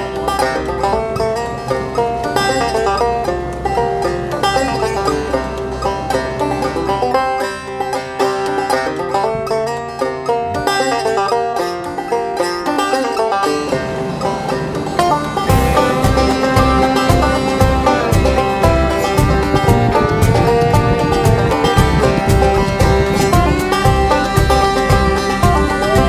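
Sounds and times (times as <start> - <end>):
deep bass: 0.0 - 26.0
plucked string music: 0.0 - 26.0.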